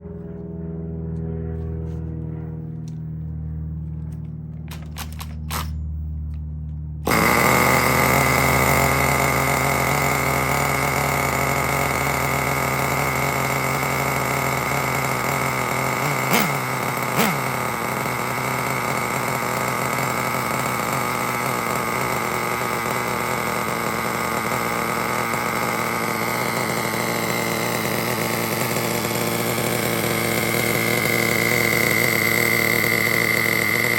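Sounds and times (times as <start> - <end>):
low hum: 0.0 - 33.9
model engine running with high whine: 0.0 - 33.9.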